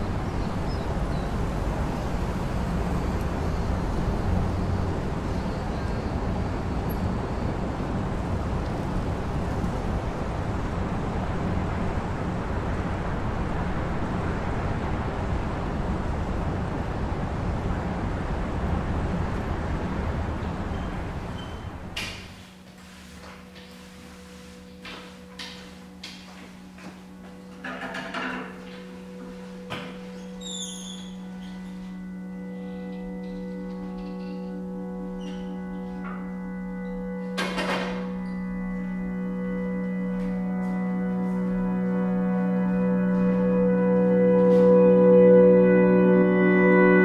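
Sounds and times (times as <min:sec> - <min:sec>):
road traffic hiss and rumble: 0:00.0 - 0:47.0.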